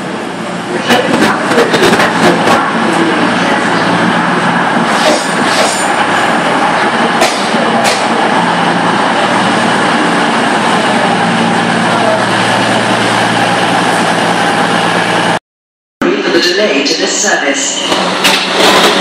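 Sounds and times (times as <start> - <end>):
train rushing past: 0.0 - 15.4.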